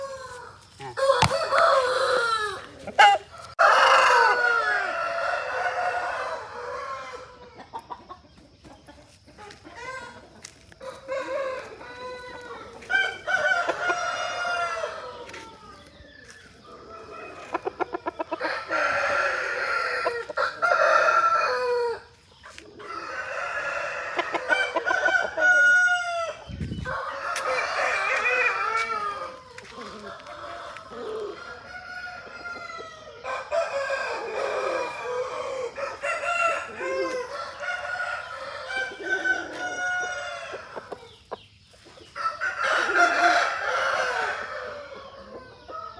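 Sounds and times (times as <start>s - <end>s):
roosters crowing: 0.0s - 7.7s, 9.8s - 45.9s
chickens clucking: 0.0s - 45.9s.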